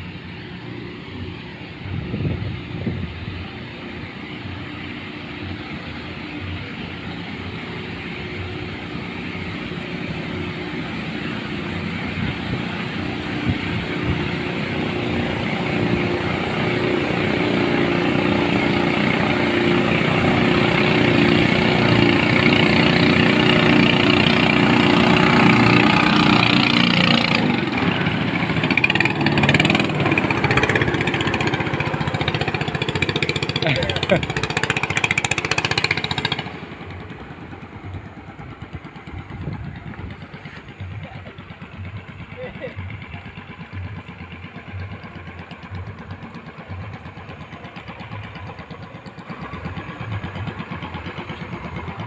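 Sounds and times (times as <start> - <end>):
boat engine running hard: 0.0 - 52.0.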